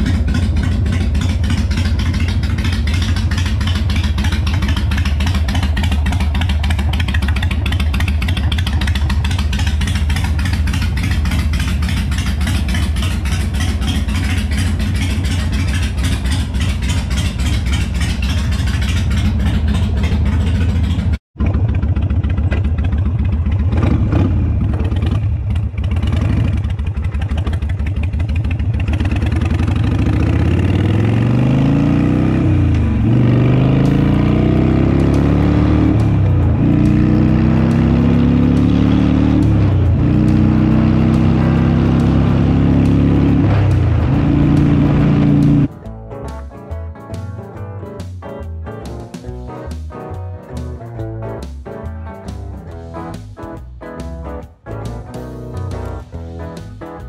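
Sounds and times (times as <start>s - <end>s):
motorcycle engine running: 0.0s - 45.8s.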